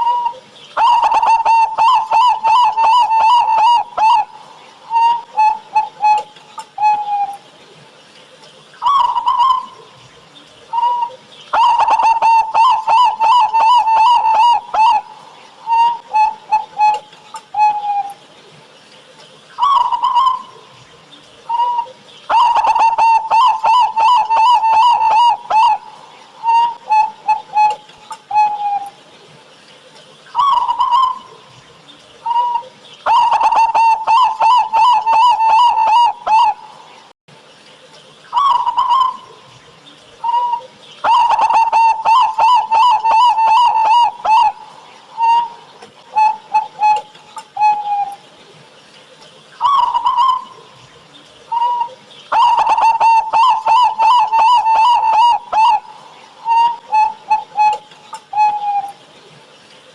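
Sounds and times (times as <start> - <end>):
dove cooing and rattling song: 0.0 - 37.0, 37.7 - 59.9.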